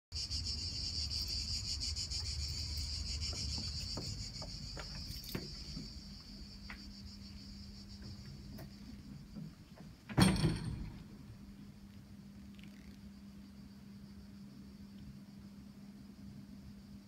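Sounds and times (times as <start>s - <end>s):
insects chirring: 0.1s - 17.0s.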